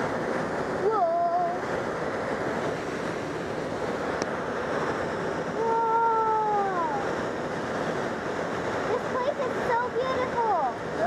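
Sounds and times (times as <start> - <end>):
airflow and wind noise: 0.0 - 11.0.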